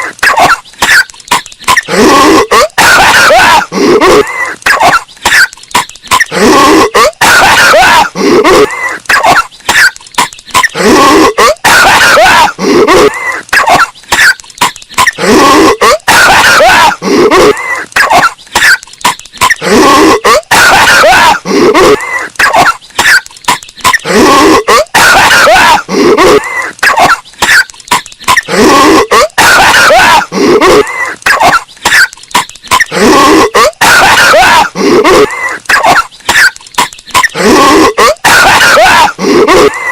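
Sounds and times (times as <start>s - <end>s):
cartoon character coughing distorted: 0.0s - 39.9s.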